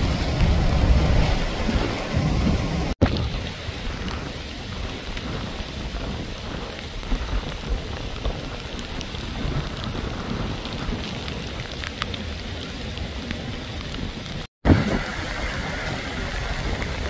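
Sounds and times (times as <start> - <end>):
heavy rain splashing into water: 0.0 - 17.0.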